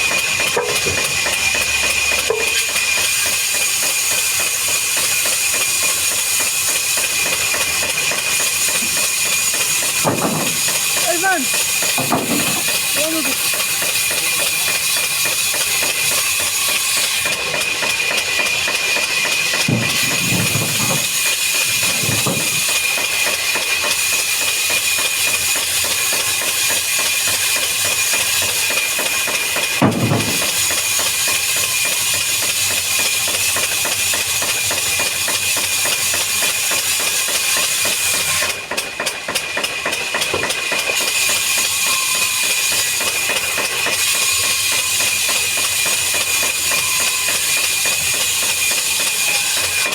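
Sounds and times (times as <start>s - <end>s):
woodworking machinery whining: 0.0s - 38.6s, 40.4s - 49.9s.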